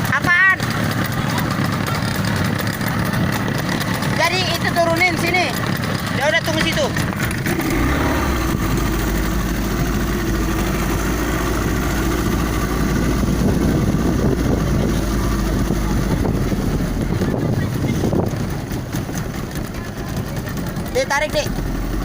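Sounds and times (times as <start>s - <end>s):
motorboat engine idling: 0.0s - 22.0s.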